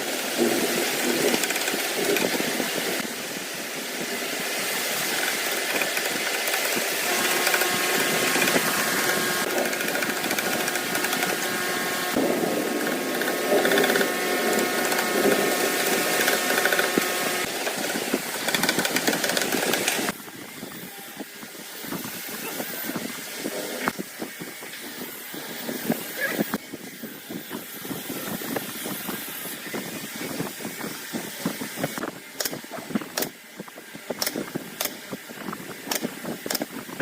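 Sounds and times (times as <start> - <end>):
high motor whine: 0.0 - 37.0
power tool whirring: 0.4 - 37.0.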